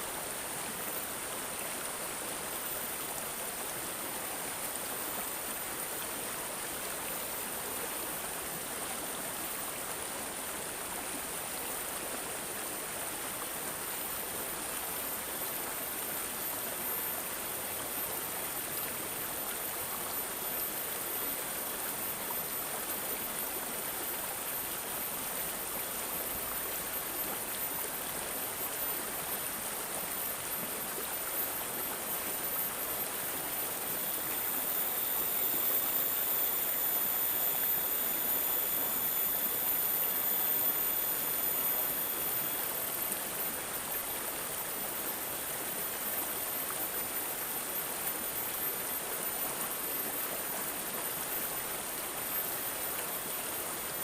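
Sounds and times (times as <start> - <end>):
stream gurgling and trickling: 0.0 - 54.0.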